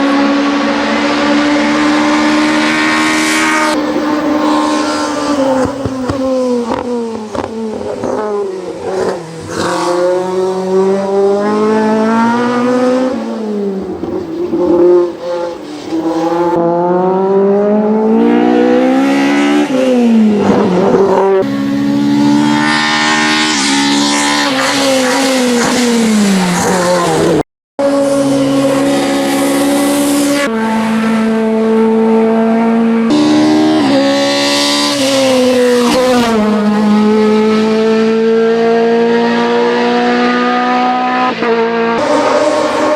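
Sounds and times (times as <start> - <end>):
race car engine at full throttle: 0.0 - 42.9.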